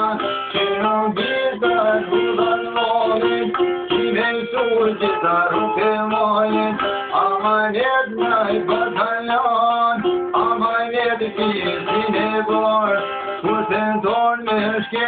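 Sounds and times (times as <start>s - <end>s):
plucked lute notes: 0.0s - 15.0s.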